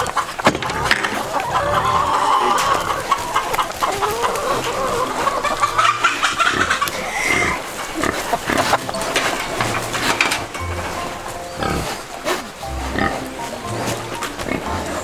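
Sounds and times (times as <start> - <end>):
chickens clucking: 0.0 - 15.0
pigs grunting: 0.0 - 15.0.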